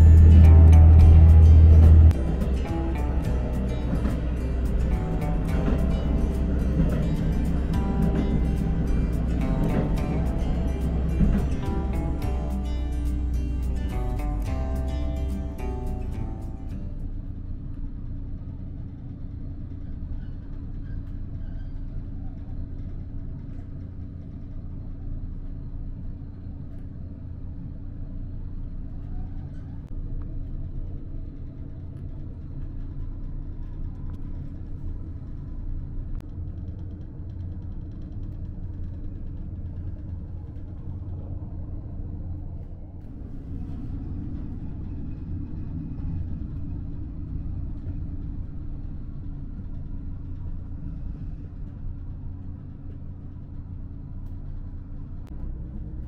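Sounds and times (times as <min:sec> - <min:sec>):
diesel engine drone: 0:00.0 - 0:56.0
wheels rumbling on rails: 0:00.0 - 0:56.0.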